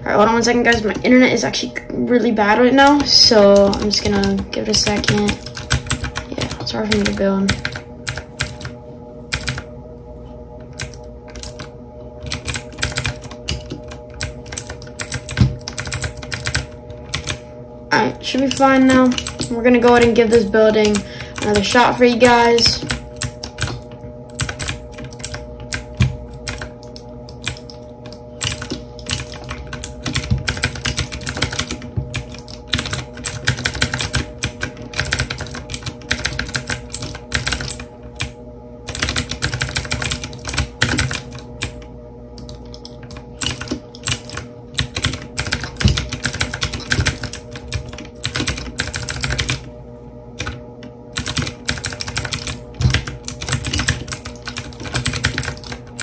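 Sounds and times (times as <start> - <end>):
mechanical keyboard typing: 2.8 - 8.7, 9.3 - 9.6, 10.8 - 17.4, 18.4 - 38.3, 38.9 - 41.8, 42.4 - 49.6, 50.4 - 50.6, 51.2 - 56.0.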